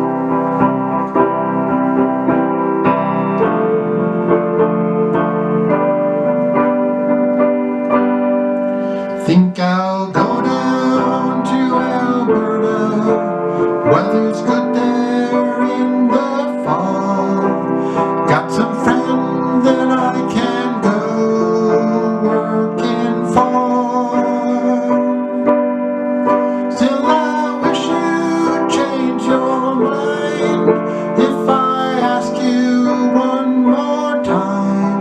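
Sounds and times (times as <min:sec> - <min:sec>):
piano chords: 0:00.0 - 0:35.0.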